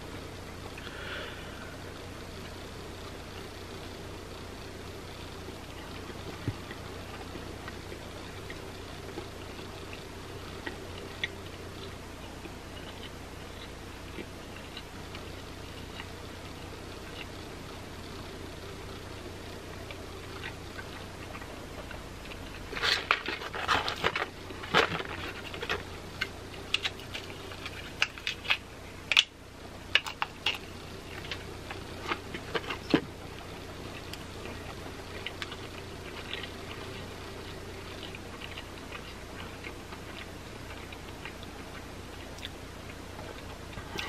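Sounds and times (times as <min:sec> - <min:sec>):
crunching fried chicken: 0:02.4 - 0:44.0.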